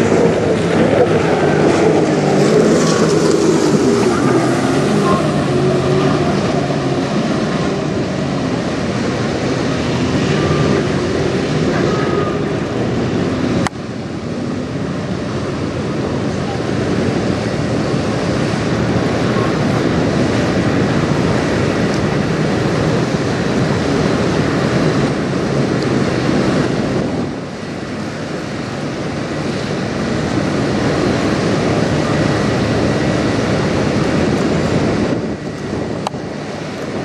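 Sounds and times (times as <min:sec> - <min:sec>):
water washing: 0:00.0 - 0:37.0
wind buffeting microphone: 0:00.0 - 0:37.0.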